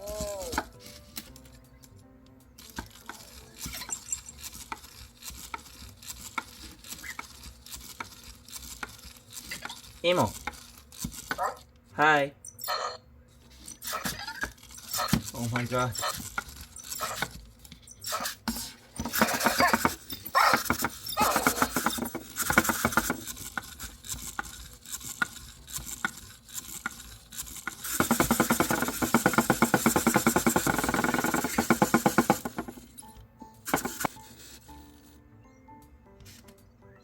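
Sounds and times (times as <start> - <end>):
robot motor buzzing: 2.6 - 11.7, 13.5 - 32.8, 33.7 - 35.2.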